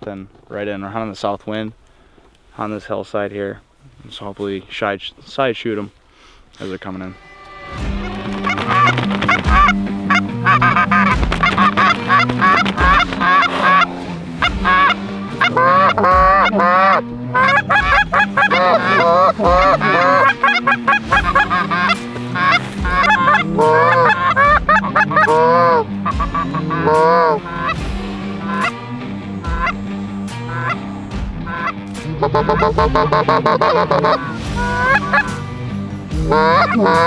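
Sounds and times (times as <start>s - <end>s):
geese honking and clucking: 7.0s - 37.0s
background music with bass line: 7.2s - 37.0s.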